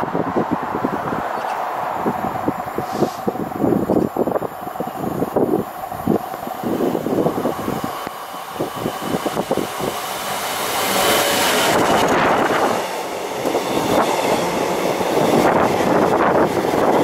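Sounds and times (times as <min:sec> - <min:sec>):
diesel locomotive passing: 0:00.0 - 0:17.0
train wagons rumbling past: 0:00.0 - 0:17.0
wind buffeting microphone: 0:00.0 - 0:17.0.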